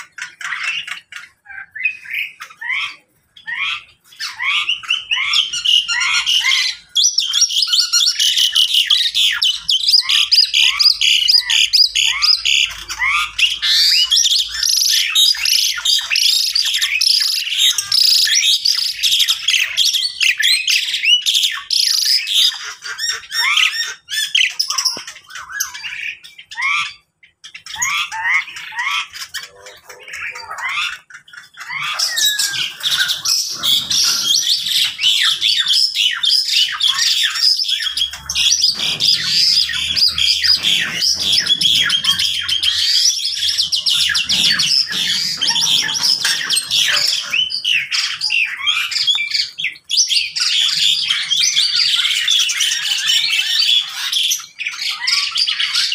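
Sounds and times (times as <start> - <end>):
caged birds squawking and chirping: 0.0 - 55.9.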